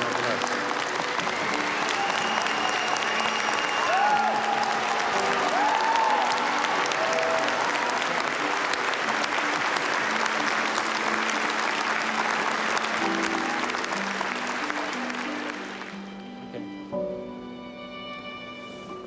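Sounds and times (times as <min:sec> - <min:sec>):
crowd applauding: 0:00.0 - 0:16.4
slow background music: 0:00.0 - 0:19.0.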